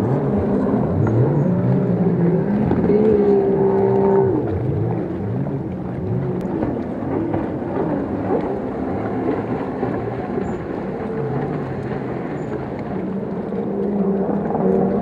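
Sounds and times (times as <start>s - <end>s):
jet ski engine whining: 0.0s - 15.0s.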